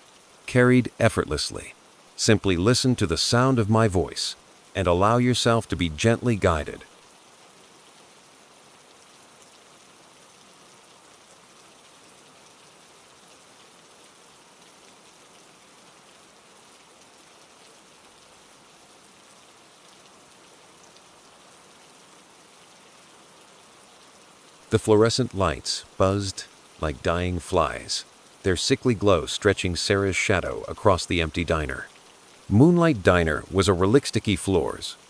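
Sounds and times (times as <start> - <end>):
faint rain falling: 0.0 - 35.0.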